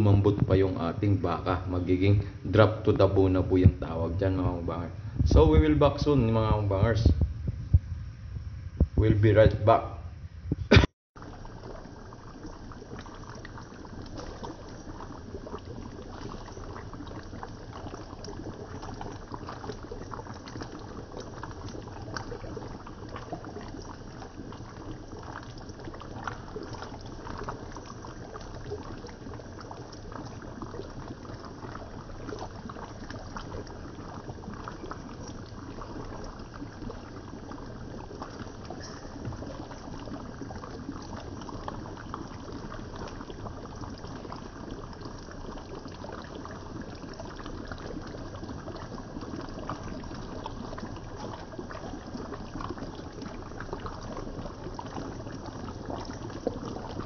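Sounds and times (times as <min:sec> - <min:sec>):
stew bubbling in pan: 0:10.5 - 0:57.0.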